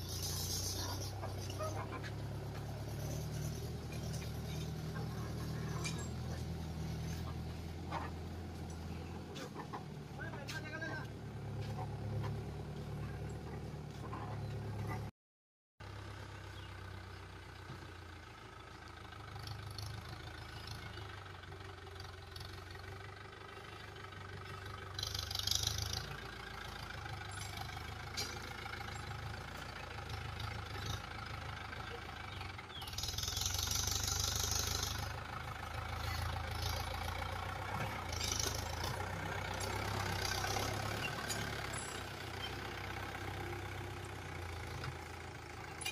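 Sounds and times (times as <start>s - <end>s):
tractor diesel engine running: 0.0s - 15.1s, 15.8s - 45.9s.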